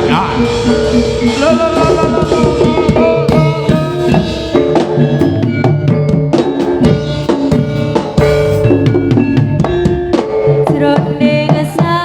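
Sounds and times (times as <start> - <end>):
drums beating: 0.0 - 12.0
stepping melody of pitched notes: 0.0 - 12.0.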